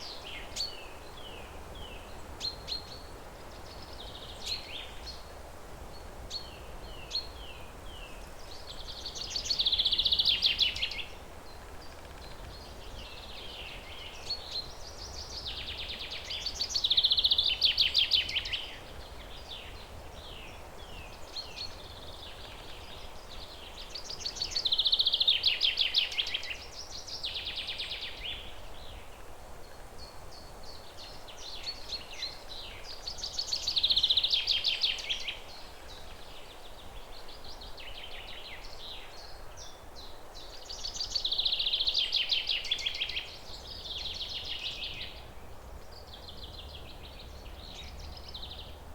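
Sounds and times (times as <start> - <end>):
songbird singing with trill: 0.0 - 5.3, 5.9 - 48.9
faint outdoor hiss: 0.0 - 48.9.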